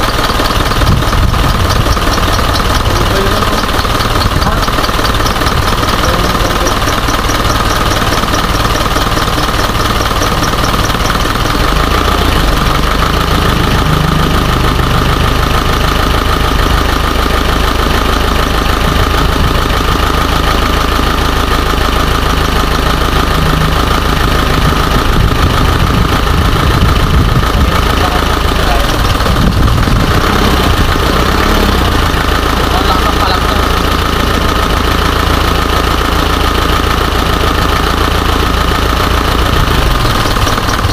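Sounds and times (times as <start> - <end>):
diesel engine idling and misfiring: 0.0 - 40.9.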